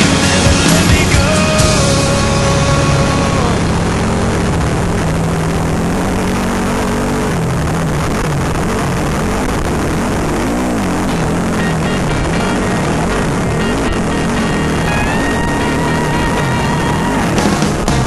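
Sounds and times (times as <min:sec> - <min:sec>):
off-road vehicle engine revving: 0:00.0 - 0:18.0
steady rushing noise: 0:00.0 - 0:18.0.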